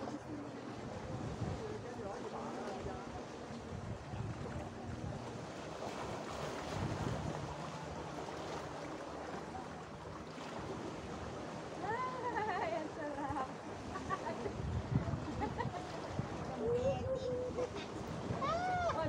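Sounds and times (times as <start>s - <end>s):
sea washing against rocky shore: 0.0s - 19.0s
wind buffeting microphone: 0.0s - 19.0s.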